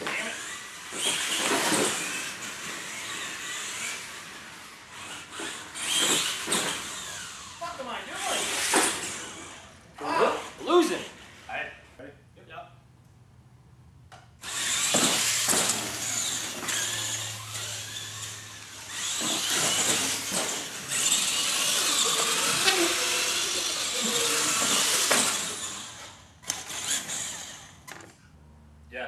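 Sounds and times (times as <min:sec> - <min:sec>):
toy truck motor whine: 0:00.0 - 0:11.3, 0:14.4 - 0:28.1.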